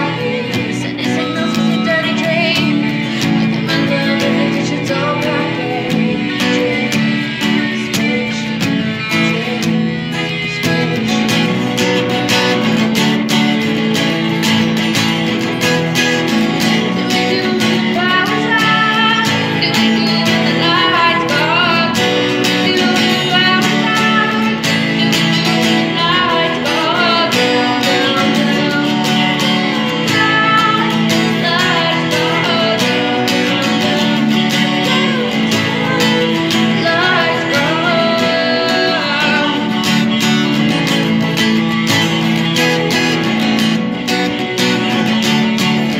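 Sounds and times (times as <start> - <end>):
woman singing: 0.0 - 13.8, 15.7 - 41.7
acoustic guitar strumming: 0.0 - 45.9.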